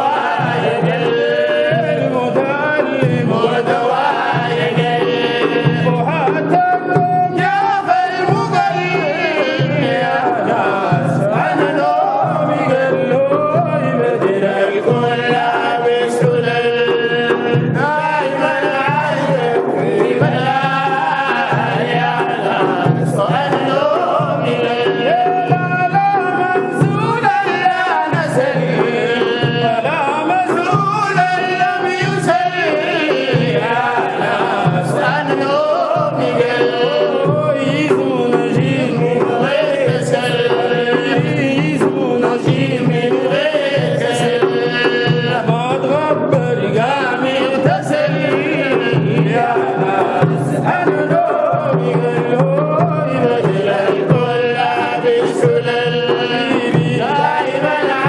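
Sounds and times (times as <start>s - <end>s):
hand drum beat: 0.0s - 58.0s
voices singing a melody: 0.0s - 58.0s.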